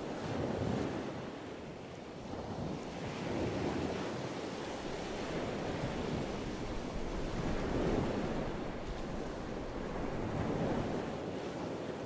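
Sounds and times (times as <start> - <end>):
wind on microphone: 2.2 - 12.0.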